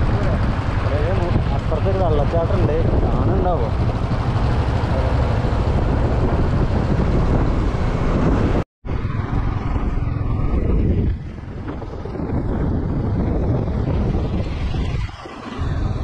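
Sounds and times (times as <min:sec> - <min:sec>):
vehicle road and wind noise: 0:00.0 - 0:16.0.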